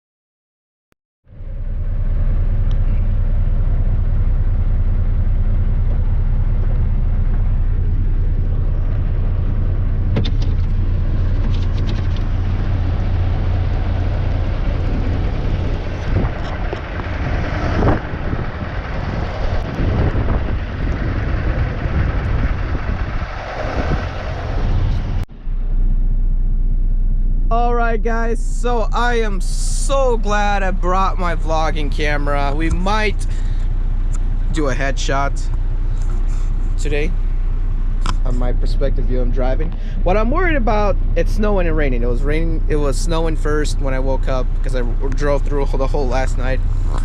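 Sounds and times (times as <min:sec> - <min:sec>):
truck diesel engine drone: 0:01.3 - 0:47.0.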